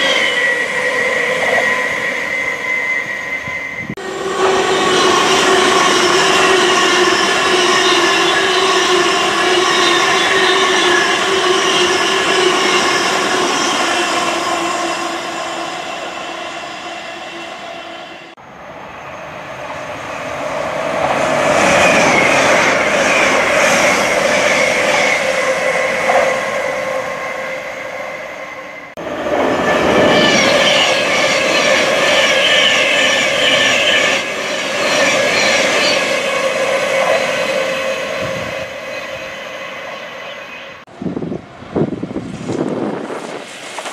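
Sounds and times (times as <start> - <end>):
electric train running in: 0.0 - 43.9
high-speed train rushing past: 0.0 - 43.9
train whine: 0.0 - 43.9.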